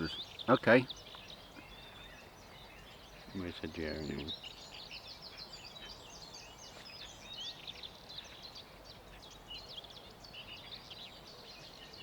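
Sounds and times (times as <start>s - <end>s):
birds chirping and whistling: 0.0s - 12.0s
faint background hiss: 0.0s - 12.0s.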